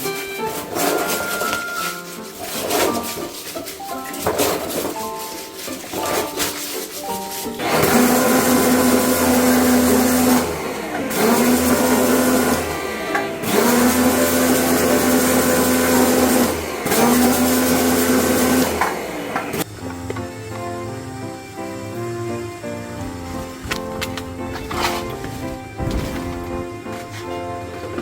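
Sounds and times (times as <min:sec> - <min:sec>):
hissing water spray: 0:00.0 - 0:27.9
pressure washer pump humming: 0:00.0 - 0:28.0.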